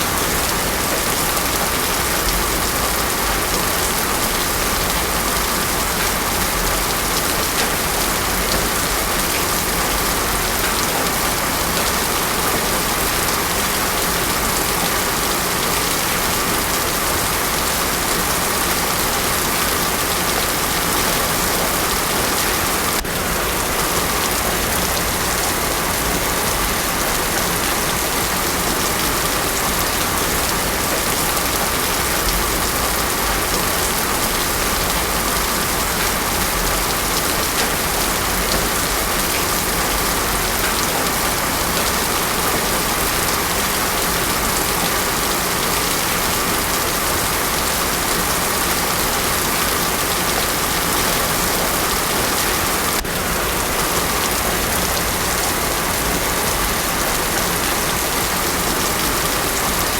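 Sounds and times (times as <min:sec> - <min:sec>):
heavy rain on road: 0:00.0 - 0:59.9.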